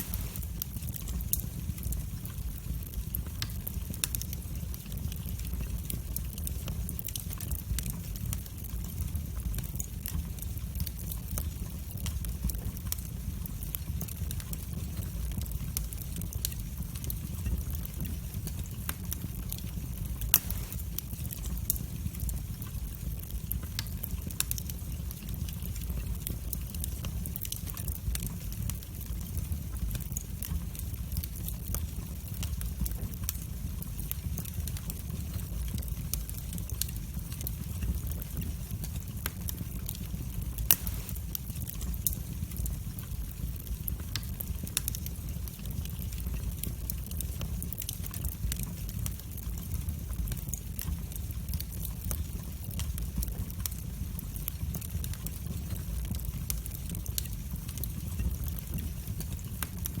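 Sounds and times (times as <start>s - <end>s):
fire crackling and popping: 0.0s - 60.0s
fire flames rumbling: 0.0s - 60.0s.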